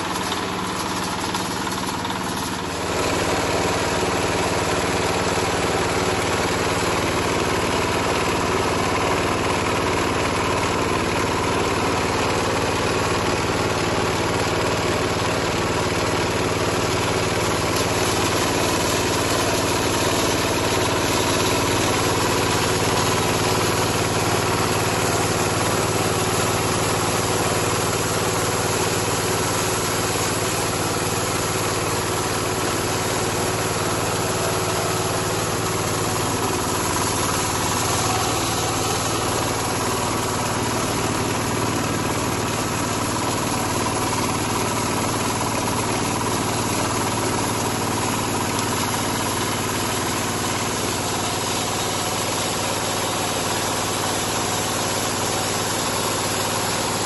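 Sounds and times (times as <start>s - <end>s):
diesel engine and hammer mill: 0.0s - 57.0s.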